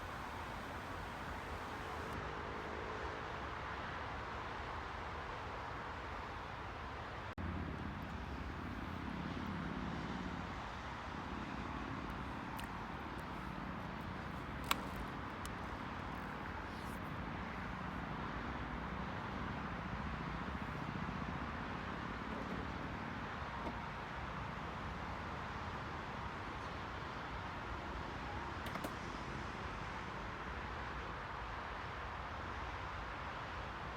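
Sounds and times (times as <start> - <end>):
traffic rumble: 0.0 - 5.2, 7.4 - 29.5.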